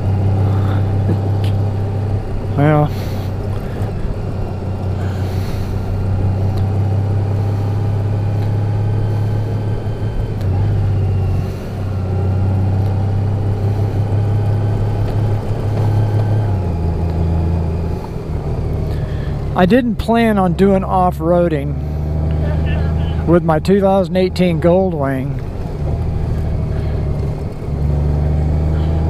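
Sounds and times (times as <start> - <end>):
motorcycle engine low drone: 0.0 - 29.0
tyre and road noise: 0.0 - 29.0.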